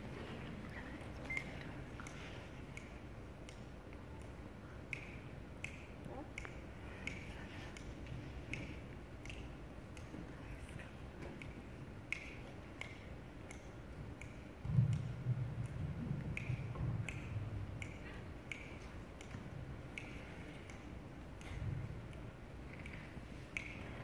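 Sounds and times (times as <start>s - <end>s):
faint evenly spaced clicks: 0.6s - 24.0s.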